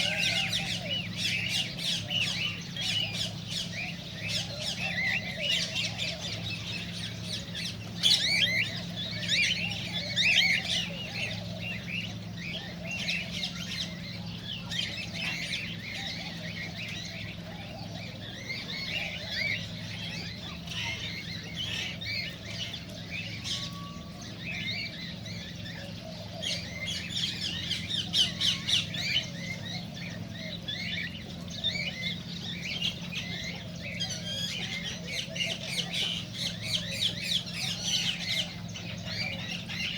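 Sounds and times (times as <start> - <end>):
cockatiels chirping and squawking: 0.0 - 39.9.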